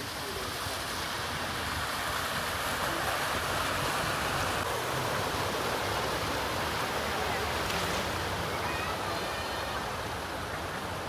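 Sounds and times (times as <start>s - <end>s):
van driving through floodwater: 0.0s - 11.0s.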